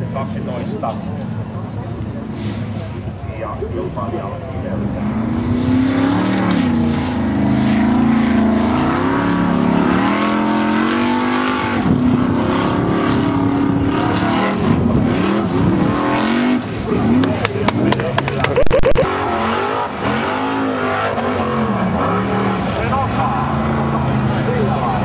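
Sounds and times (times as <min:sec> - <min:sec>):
buggy engine at high revs: 0:04.5 - 0:25.0.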